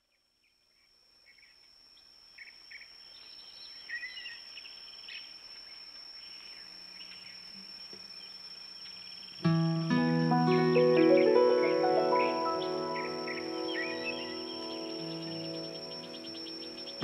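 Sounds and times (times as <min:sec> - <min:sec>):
high insect trill: 0:00.3 - 0:17.0
bird chirps: 0:02.4 - 0:17.0.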